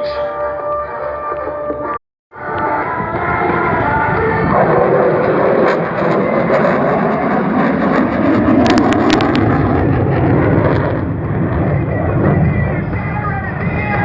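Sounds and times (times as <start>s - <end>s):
aircraft engine rushing: 0.0s - 14.0s.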